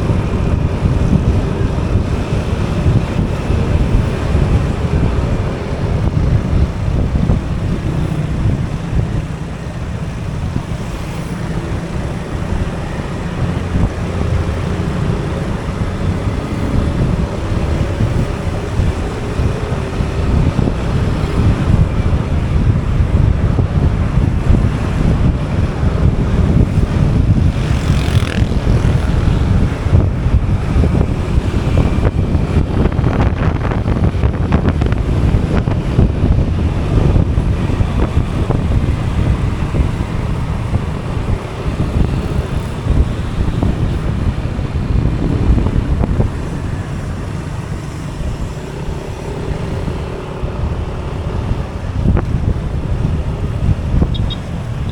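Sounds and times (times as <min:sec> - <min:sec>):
motorcycle engine running: 0:00.0 - 0:54.9
road traffic: 0:00.0 - 0:54.9
wind buffeting microphone: 0:00.0 - 0:54.9.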